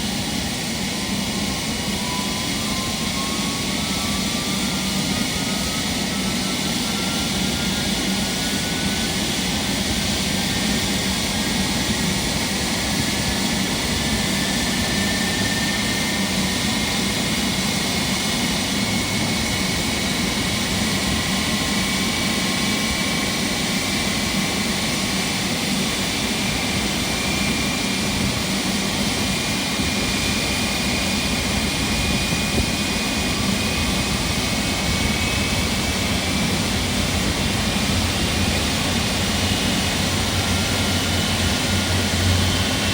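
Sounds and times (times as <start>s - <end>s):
jet engine spooling up: 0.0s - 42.9s.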